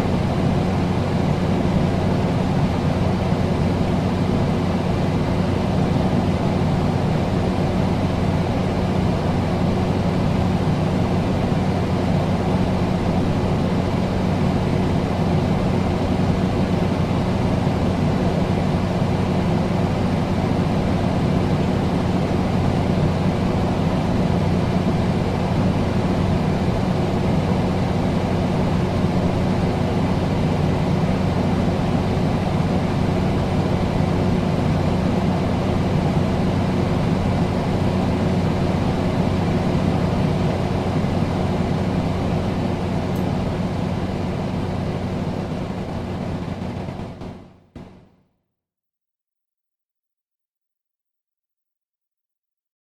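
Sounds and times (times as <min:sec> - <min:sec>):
air conditioner running: 0:00.0 - 0:48.0.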